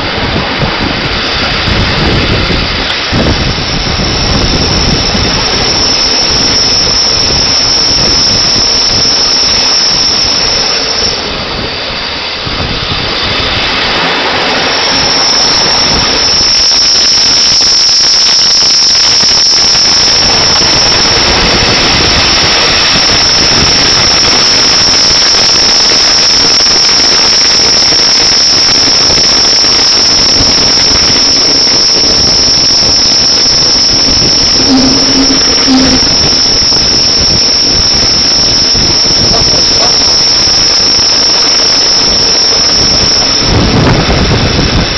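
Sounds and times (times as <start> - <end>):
train wheel running noise: 0.0 - 44.9
high-pitched wheel squeal: 2.2 - 11.4, 13.8 - 44.9.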